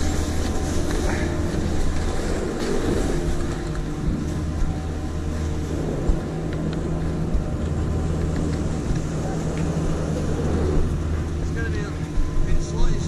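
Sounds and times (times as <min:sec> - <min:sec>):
skis scraping over snow: 0:00.0 - 0:12.0
wind over microphone: 0:00.0 - 0:13.0.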